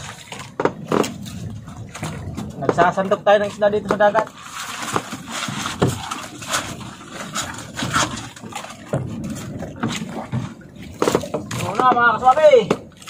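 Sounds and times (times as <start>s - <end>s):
fishing net rustling: 0.0s - 13.0s.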